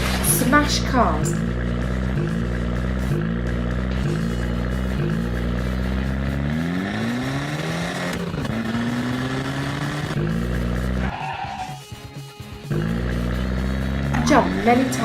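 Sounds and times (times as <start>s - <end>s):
cartoon truck engine revving: 0.0s - 15.0s.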